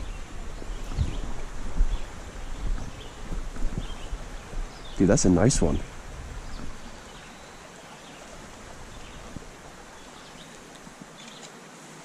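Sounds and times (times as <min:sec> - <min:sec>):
creek flowing: 0:00.0 - 0:12.0.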